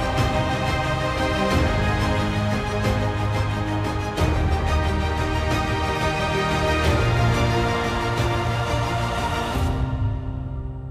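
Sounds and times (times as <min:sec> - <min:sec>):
theme music with deep bass: 0:00.0 - 0:10.9.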